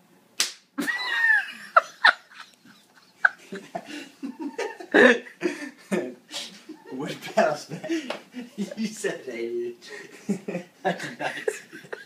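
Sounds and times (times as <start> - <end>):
laughter: 0.8 - 8.9, 10.0 - 12.0.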